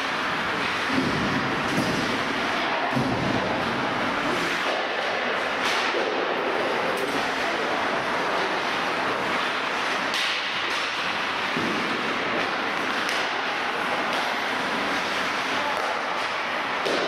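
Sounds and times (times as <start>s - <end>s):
hockey sticks and puck clacking: 0.0s - 17.0s
skates scraping on ice: 0.0s - 17.0s.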